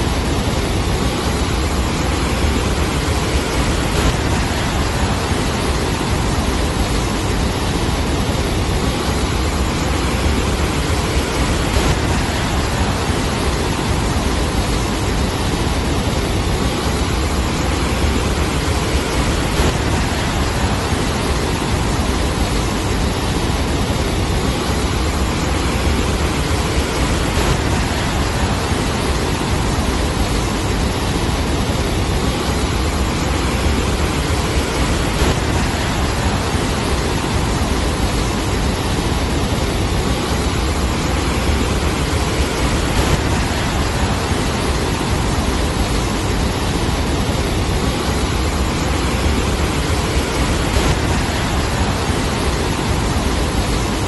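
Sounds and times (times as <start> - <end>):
storm wind: 0.0 - 54.0
waves washing over shore: 0.0 - 54.0.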